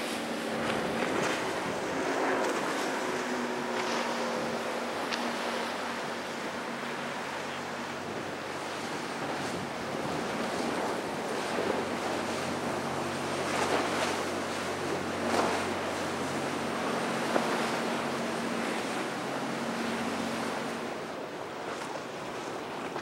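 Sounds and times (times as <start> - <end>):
splashing swells: 0.0 - 21.2
faint engine drone: 0.0 - 23.0
rushing surf and spray: 0.0 - 23.0
wind on microphone: 0.0 - 23.0.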